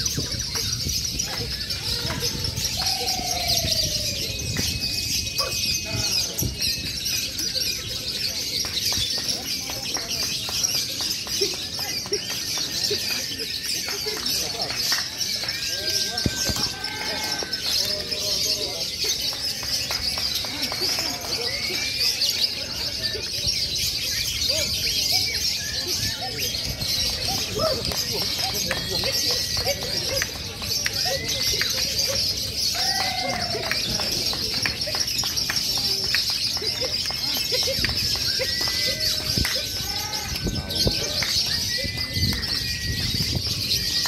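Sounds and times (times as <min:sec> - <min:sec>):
lovebirds chirping and trilling: 0:00.0 - 0:44.0
people's voices: 0:00.0 - 0:44.0.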